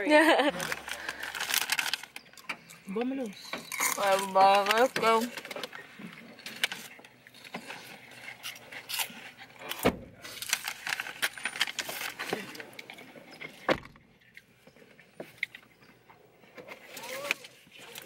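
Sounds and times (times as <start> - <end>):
clinking and rustling handling: 0.3 - 18.0.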